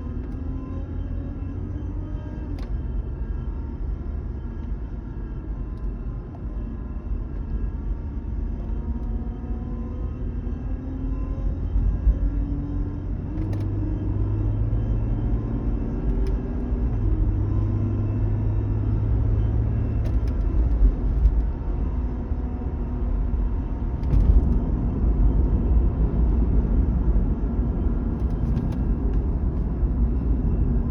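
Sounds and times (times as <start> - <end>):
car rumbling while driving: 0.0 - 30.9.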